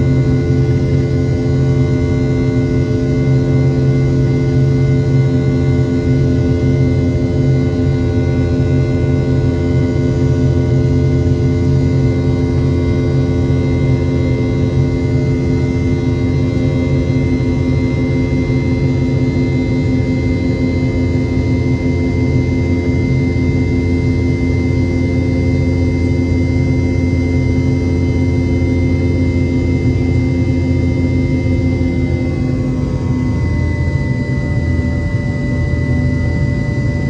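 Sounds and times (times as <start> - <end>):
jet engines droning at takeoff: 0.0 - 37.0.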